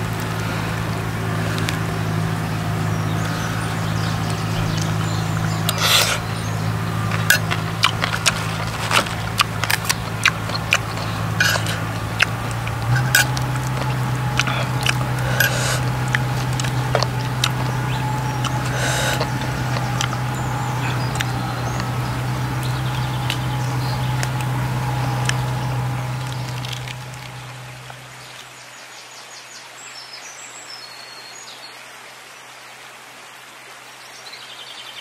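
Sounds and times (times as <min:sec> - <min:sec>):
steady low hum: 0:00.0 - 0:28.4
chewing and crunching food: 0:00.0 - 0:28.5.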